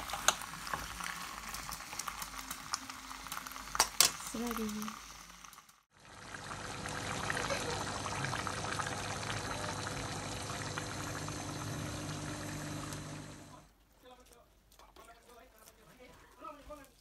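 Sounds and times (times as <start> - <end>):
curry simmering with crackles: 0.0 - 13.6.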